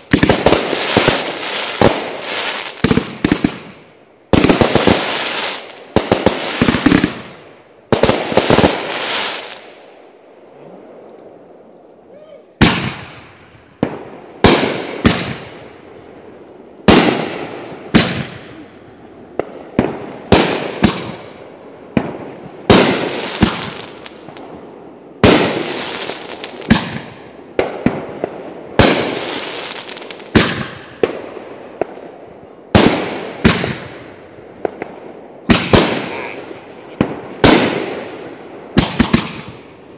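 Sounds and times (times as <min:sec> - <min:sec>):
fireworks banging and crackling: 0:00.0 - 0:09.8, 0:12.6 - 0:39.9.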